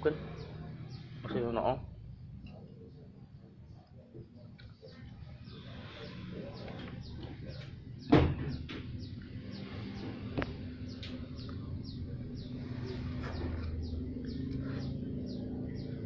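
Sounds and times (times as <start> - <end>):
bird chirping: 0.0 - 1.7, 3.7 - 16.0.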